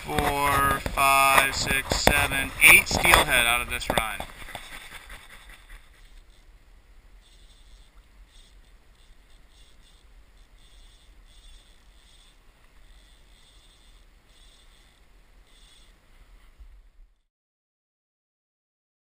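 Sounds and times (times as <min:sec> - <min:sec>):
low steady rumble: 0:00.0 - 0:17.2.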